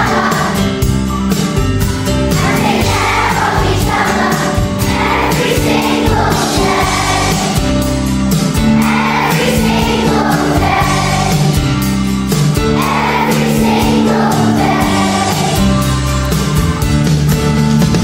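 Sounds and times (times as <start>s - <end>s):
choir singing over a beat: 0.0s - 1.1s, 2.3s - 16.0s.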